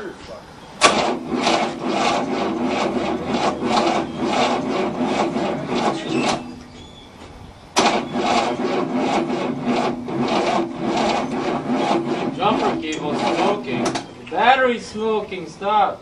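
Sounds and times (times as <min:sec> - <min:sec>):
starter motor cranking engine: 0:00.8 - 0:14.5.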